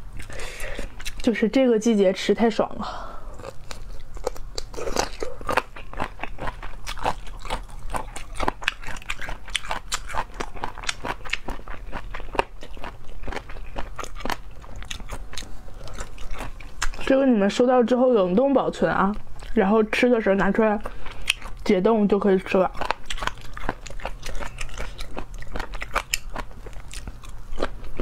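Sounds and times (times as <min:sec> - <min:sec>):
crunchy chewing close up: 0:00.1 - 0:01.4, 0:03.3 - 0:17.3, 0:19.0 - 0:28.0.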